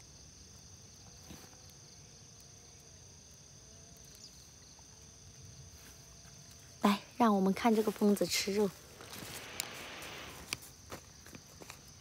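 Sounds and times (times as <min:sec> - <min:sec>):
high-pitched insect trilling: 0:00.2 - 0:12.0.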